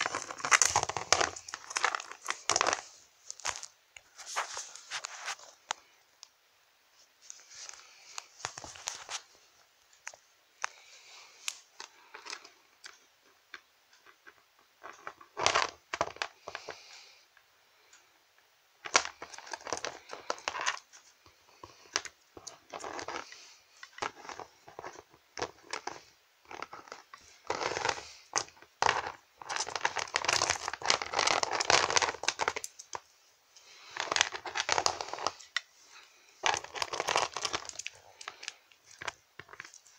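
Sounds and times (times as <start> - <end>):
plastic toys rustling and clicking: 0.0 - 5.9, 7.2 - 9.4, 10.0 - 17.0, 18.8 - 39.9.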